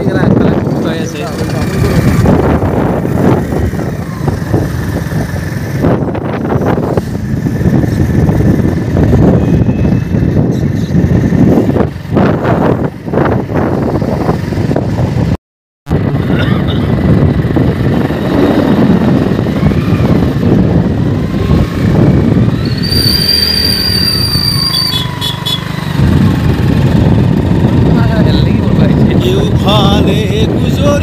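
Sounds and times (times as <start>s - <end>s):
wind on microphone: 0.0s - 24.8s, 25.7s - 31.0s
road vehicle noise: 0.0s - 31.0s.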